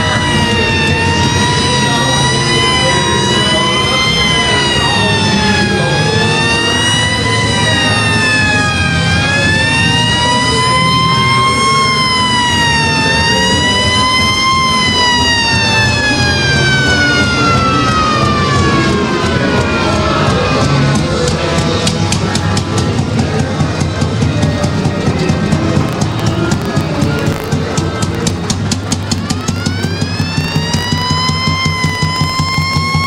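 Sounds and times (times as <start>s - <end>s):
wailing siren: 0.0s - 33.0s.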